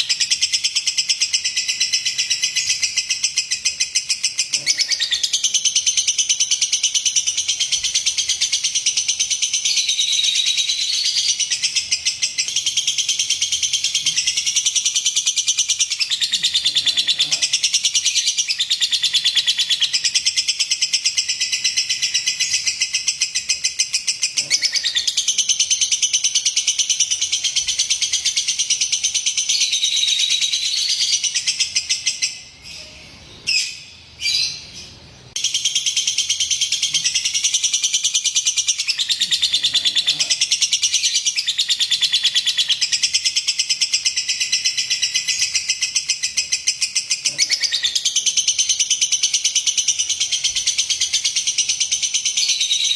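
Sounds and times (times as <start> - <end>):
lovebird chattering trill: 0.0 - 52.9.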